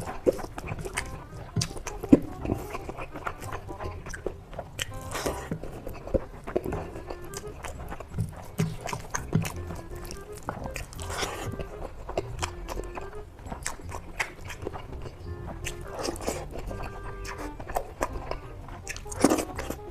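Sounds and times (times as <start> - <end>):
chewing and crunching: 0.0 - 19.9
rustling: 0.0 - 19.9.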